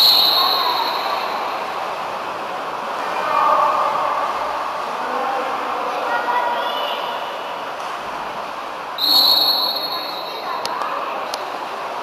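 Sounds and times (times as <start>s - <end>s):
faint indistinct voices: 0.0s - 12.0s
noisy wash of sound: 0.0s - 12.0s.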